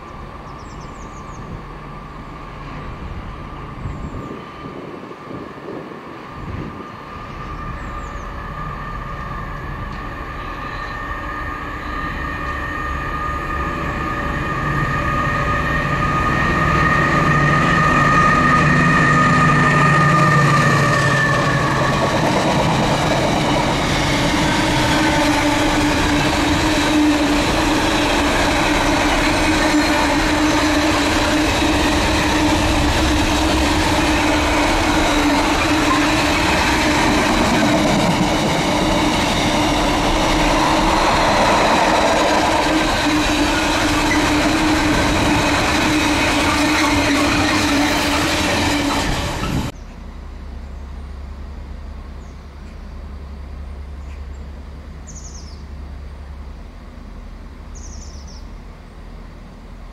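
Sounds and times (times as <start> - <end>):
train passing with high whine: 0.0 - 59.9.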